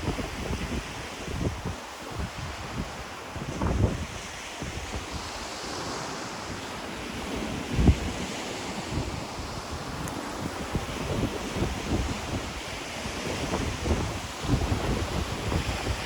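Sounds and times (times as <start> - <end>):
ocean waves washing on shore: 0.0 - 16.0
wind buffeting microphone: 0.0 - 16.0.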